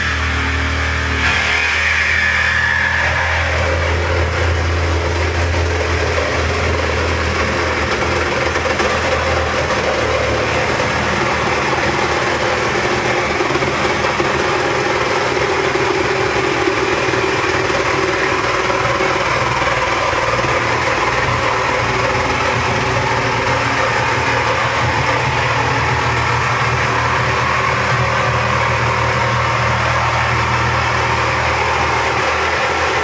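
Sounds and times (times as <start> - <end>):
power tool cutting: 0.0 - 33.0.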